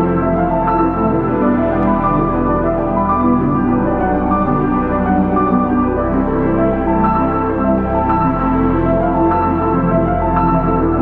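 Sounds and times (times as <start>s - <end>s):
calm ambient music: 0.0s - 11.0s.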